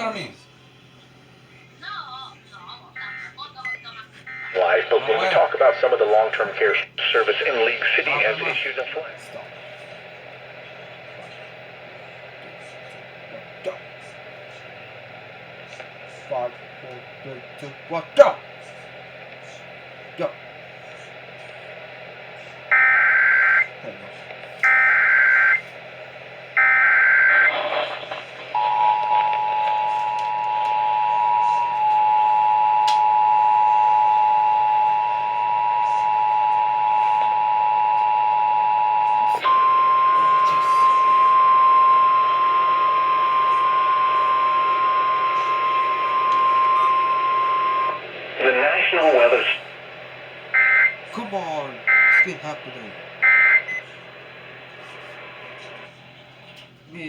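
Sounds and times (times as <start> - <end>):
steady radio alarm tone: 2.9 - 56.5.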